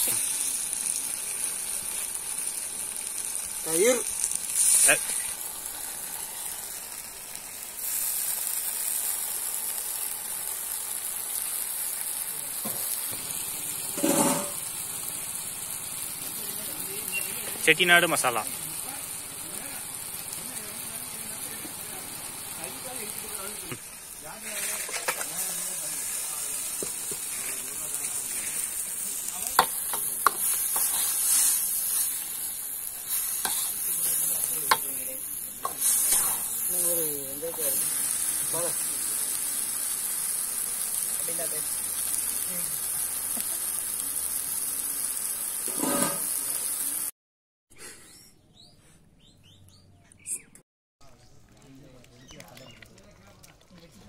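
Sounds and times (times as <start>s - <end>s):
gravy sizzling in a wok: 0.0s - 47.2s.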